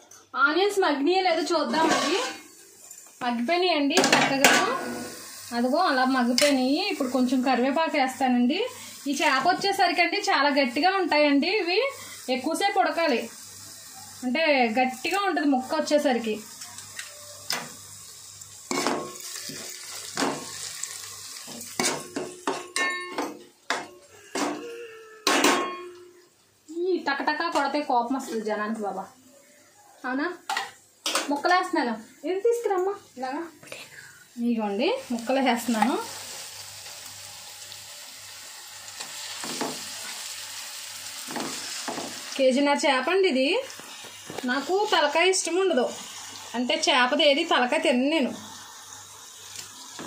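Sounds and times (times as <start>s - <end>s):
faint sizzle of frying: 0.0s - 50.0s.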